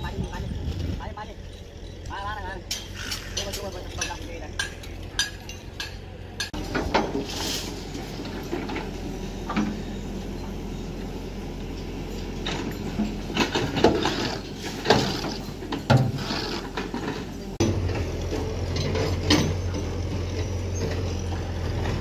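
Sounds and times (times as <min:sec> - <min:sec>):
heavy construction machinery running: 0:00.0 - 0:22.0
metal clanks: 0:02.6 - 0:10.5, 0:11.7 - 0:22.0.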